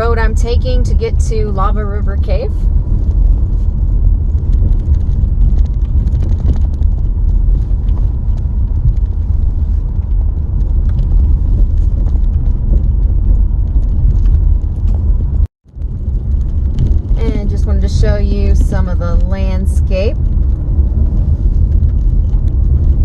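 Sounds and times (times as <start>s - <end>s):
car tyres and engine rumble: 0.0s - 23.0s
gravel ticks: 2.7s - 23.0s.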